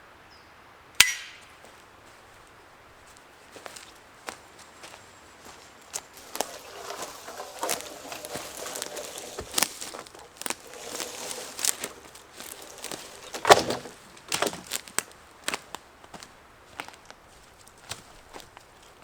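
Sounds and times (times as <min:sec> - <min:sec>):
slow footsteps: 0:02.0 - 0:18.9.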